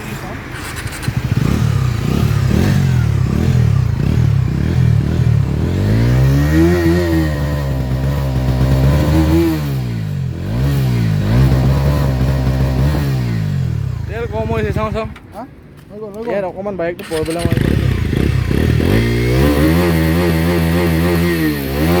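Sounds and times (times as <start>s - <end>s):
motorcycle engine revving: 0.0s - 15.2s, 17.0s - 22.0s.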